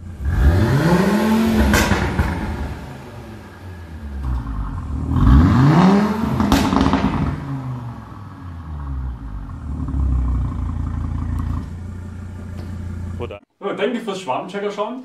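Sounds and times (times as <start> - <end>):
car engine revving: 0.0 - 13.4
exhaust crack: 0.0 - 13.4
car engine idling: 1.3 - 13.4.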